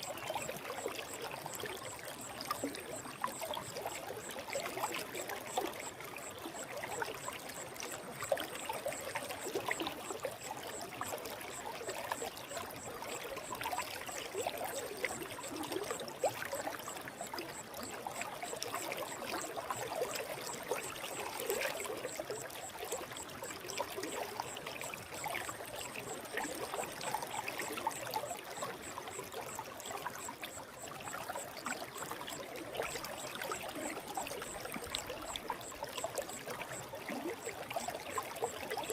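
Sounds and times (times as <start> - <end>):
water gurgling and splashing: 0.0 - 38.9.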